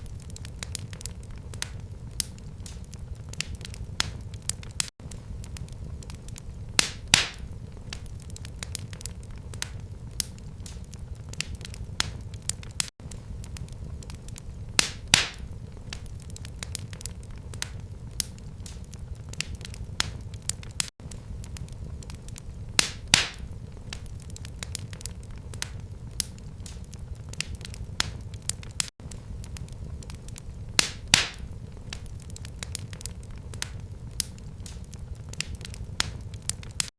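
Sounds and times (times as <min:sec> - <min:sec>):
loud fire pops: 0:00.0 - 0:36.9
low rumble of flames: 0:00.0 - 0:36.9
wood fire crackling: 0:00.0 - 0:36.9.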